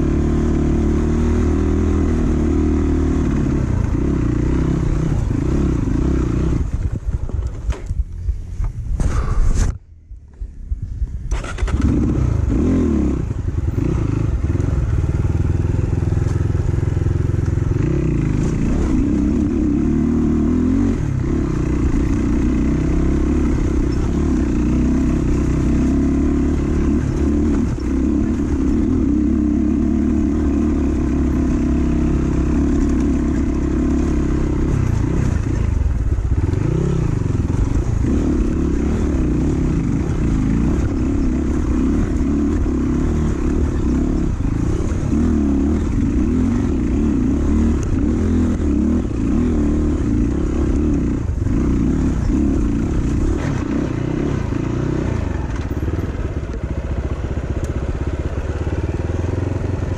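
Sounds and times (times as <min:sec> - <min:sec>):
dirt bike engine revving: 0:00.0 - 0:07.4, 0:11.3 - 0:55.6.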